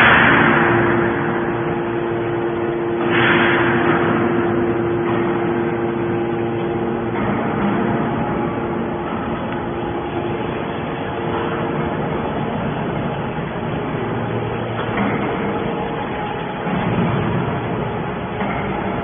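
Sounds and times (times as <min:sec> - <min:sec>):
hum of steady tones: 0:00.0 - 0:19.0
scrap metal shredding machinery: 0:00.0 - 0:19.0.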